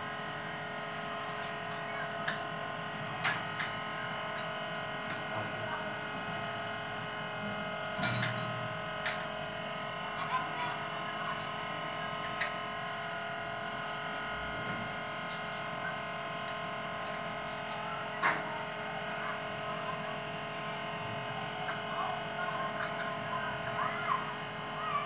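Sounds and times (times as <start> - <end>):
steady multi-tone hum: 0.0 - 25.0.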